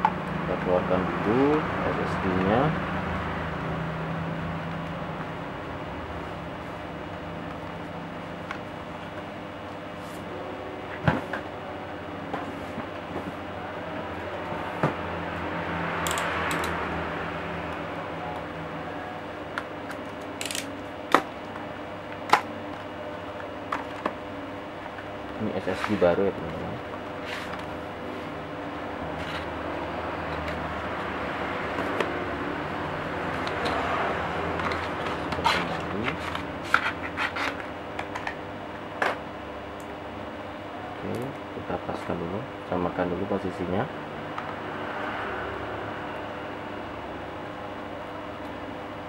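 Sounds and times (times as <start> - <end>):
road traffic noise: 0.0 - 41.5, 42.3 - 49.0
steady background hum: 0.0 - 49.0.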